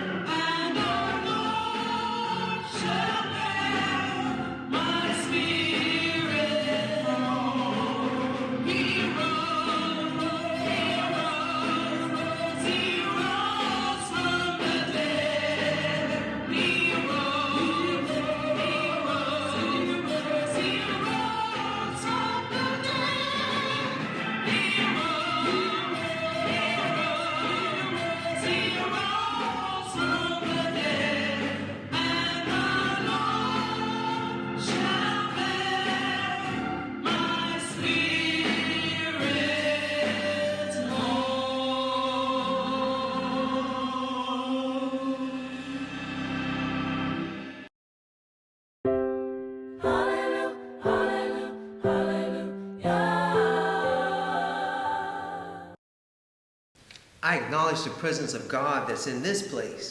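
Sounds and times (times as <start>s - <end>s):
choir singing: 0.0s - 46.2s, 49.8s - 55.8s.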